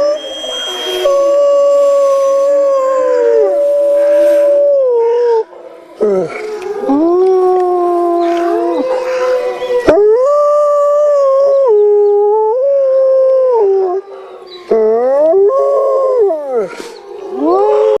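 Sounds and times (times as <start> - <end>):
wolf howling: 0.0 - 18.0.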